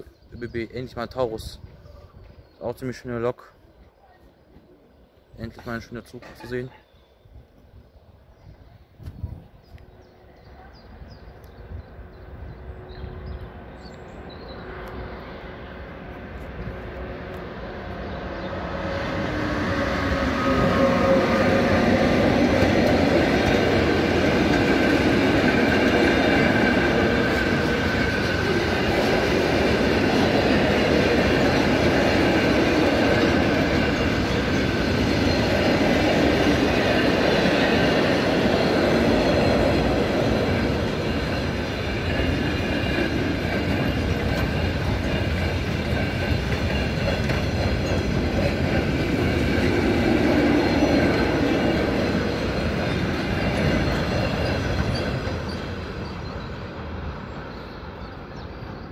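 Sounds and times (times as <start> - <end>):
freight train rolling rumble: 7.7 - 58.9.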